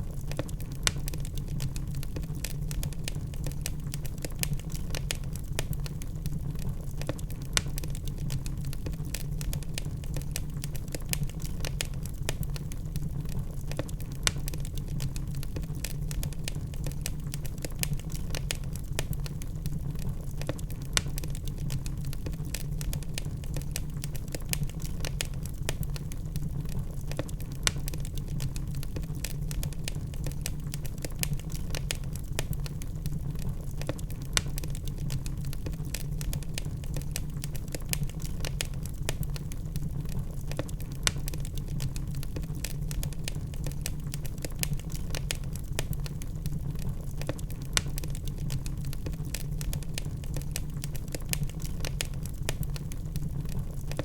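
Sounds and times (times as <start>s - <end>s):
burning wood popping: 0.0s - 54.0s
log fire crackling: 0.0s - 54.0s.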